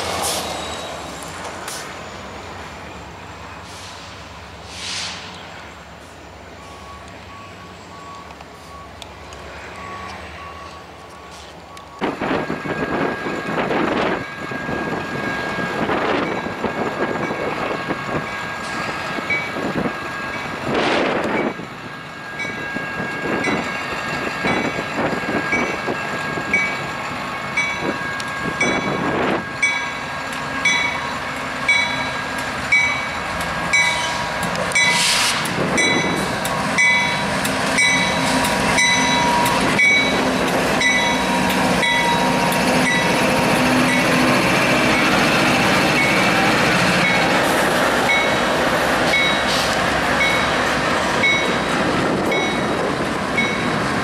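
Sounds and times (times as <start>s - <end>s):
locomotive engines and wheels rumbling: 0.0s - 54.0s.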